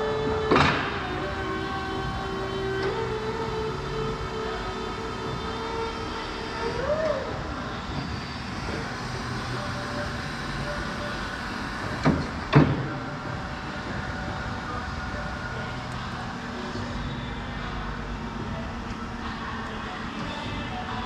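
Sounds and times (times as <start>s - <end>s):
hydraulic hum and hiss: 0.0s - 21.0s.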